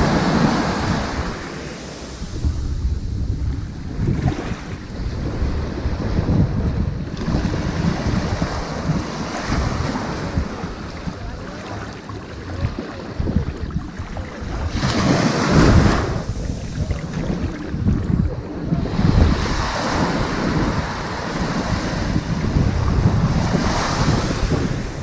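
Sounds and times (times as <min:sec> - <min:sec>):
ocean waves on beach: 0:00.0 - 0:25.0
wind buffeting microphone: 0:00.0 - 0:25.0.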